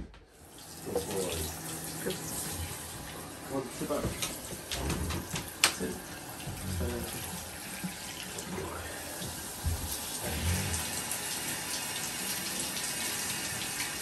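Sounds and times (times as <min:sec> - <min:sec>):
shower spraying on dog's coat: 0:00.6 - 0:14.0.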